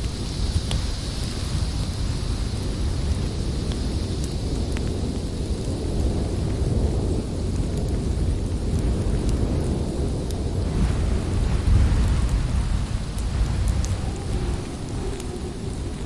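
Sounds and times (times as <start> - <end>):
storm wind blowing: 0.0 - 16.0
wood fire crackling: 0.0 - 16.0.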